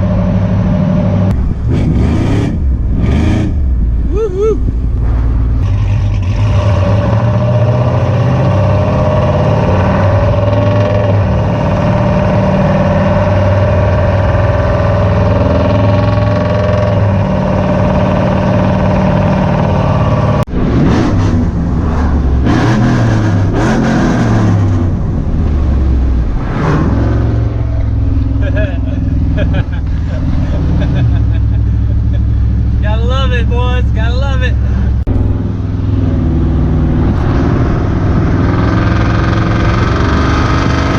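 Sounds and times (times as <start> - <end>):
loud vee eight engine: 0.0 - 40.9.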